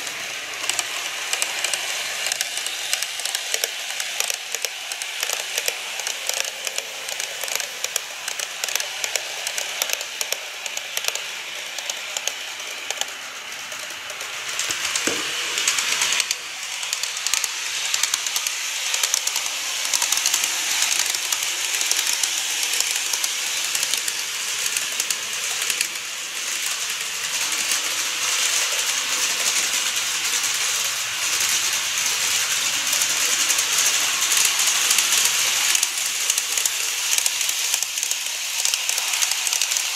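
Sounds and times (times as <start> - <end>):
hissing running noise: 0.0 - 39.9
model train wheels clicking: 0.0 - 39.9.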